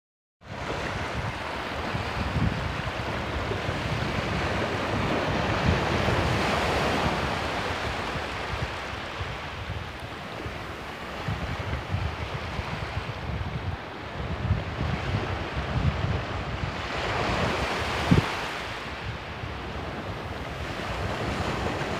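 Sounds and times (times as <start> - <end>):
surf washing over sand: 0.5 - 21.9
wind buffeting microphone: 0.5 - 21.9.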